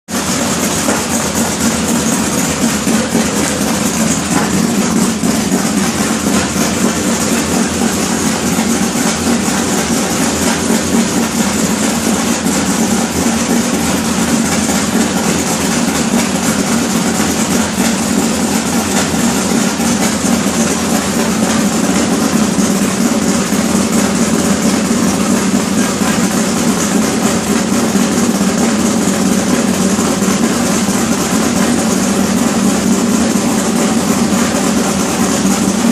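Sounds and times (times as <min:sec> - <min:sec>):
race car engine running: 0:00.1 - 0:35.9.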